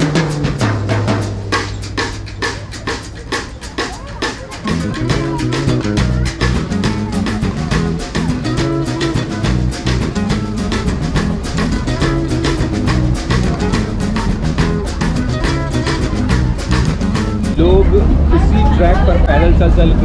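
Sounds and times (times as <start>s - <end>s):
music with guitar and drums: 0.0s - 17.6s.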